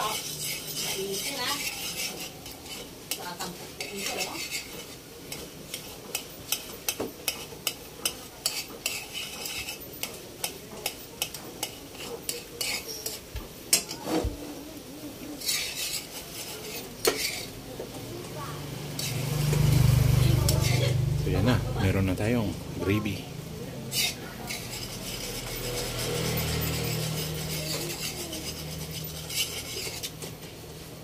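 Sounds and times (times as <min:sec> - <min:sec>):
metal spoon scraping a pan: 0:00.0 - 0:31.0.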